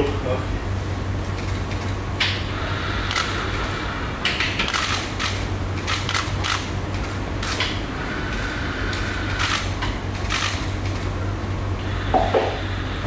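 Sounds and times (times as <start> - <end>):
train carriage low hum: 0.0 - 13.0.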